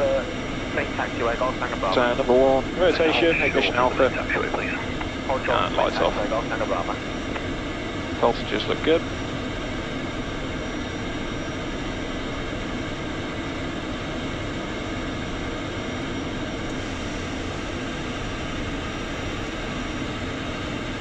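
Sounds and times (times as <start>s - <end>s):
faint engine whines: 0.0s - 21.0s
jet engines rushing: 0.0s - 21.0s.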